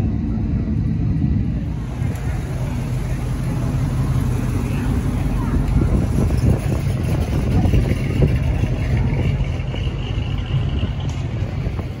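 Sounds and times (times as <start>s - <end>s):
car engine pulling away: 0.0s - 12.0s.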